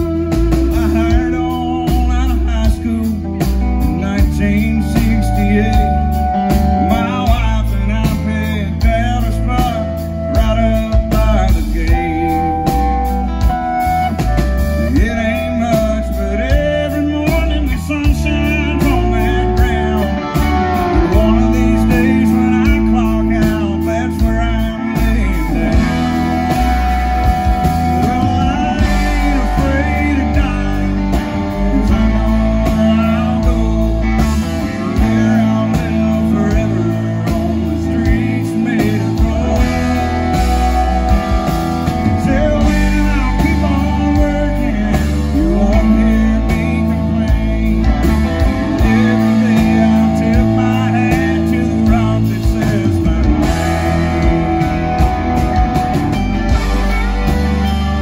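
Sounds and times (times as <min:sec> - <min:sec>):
bass guitar: 0:00.0 - 0:58.0
electric guitars: 0:00.0 - 0:58.0.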